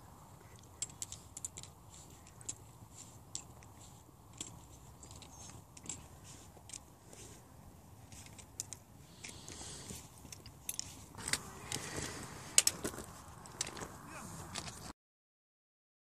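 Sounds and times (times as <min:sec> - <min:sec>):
faint rustle: 0:00.0 - 0:14.9
light clicks and crackles: 0:00.3 - 0:14.9.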